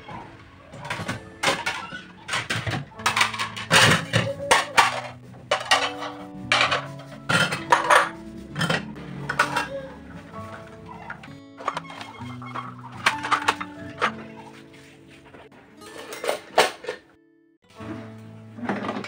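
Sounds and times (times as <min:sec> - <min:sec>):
soft background music: 0:00.0 - 0:19.0
plates and bowls clattering: 0:00.7 - 0:14.6, 0:15.8 - 0:17.2, 0:18.6 - 0:19.0.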